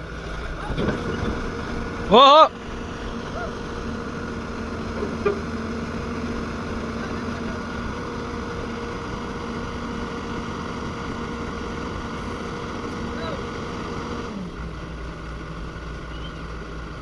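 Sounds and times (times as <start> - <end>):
heavy machinery engine humming: 0.0 - 17.0.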